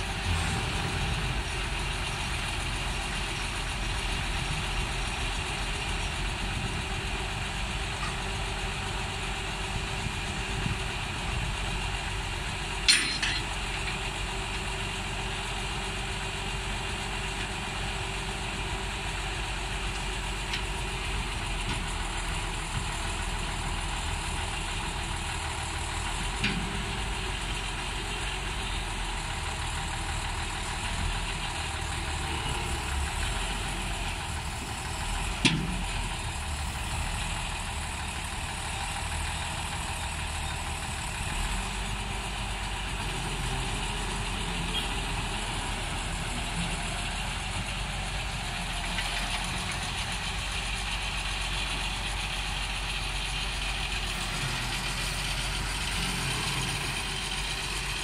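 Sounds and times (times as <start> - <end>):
crane engine running: 0.0 - 58.0.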